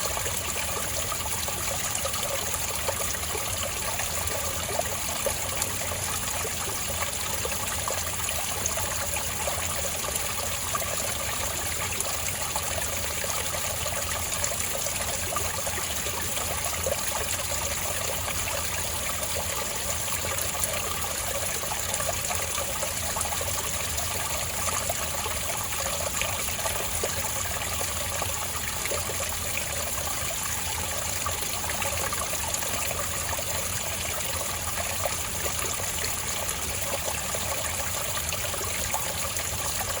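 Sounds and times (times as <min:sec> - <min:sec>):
water trickling over rocks: 0:00.0 - 0:40.0.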